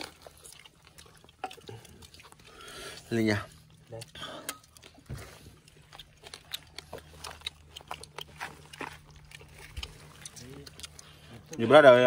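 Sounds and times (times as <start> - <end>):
chewing with wet mouth clicks: 0.0 - 12.0
faint low hum: 0.0 - 12.0.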